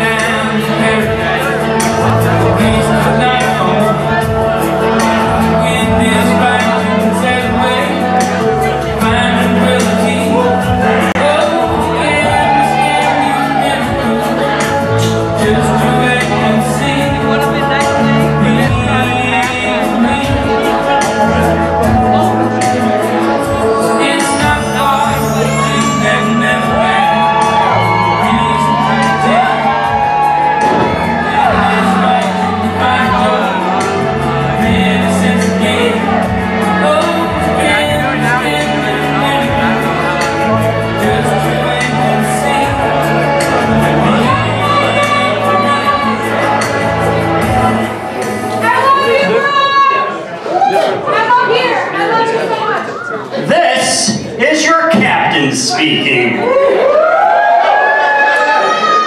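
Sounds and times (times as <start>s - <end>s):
song with singing over beat: 0.0s - 51.7s.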